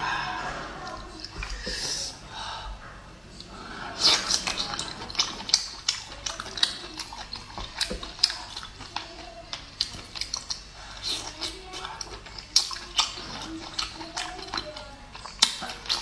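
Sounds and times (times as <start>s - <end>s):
chewing and lip-smacking: 0.8s - 1.9s, 3.4s - 16.0s.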